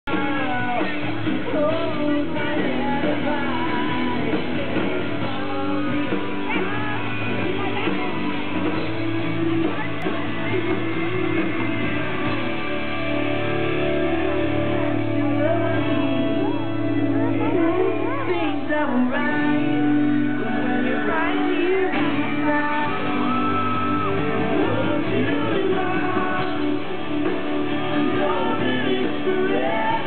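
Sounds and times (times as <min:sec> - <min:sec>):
man singing lead vocal: 0:00.0 - 0:08.3, 0:13.6 - 0:30.0
live pop-rock band: 0:00.0 - 0:30.0.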